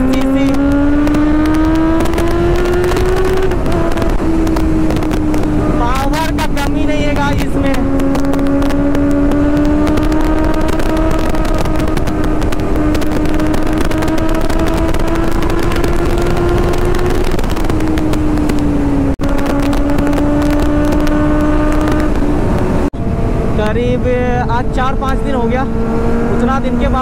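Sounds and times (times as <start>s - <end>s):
motorcycle engine running hard: 0.0s - 27.0s
wind noise on microphone: 0.0s - 27.0s.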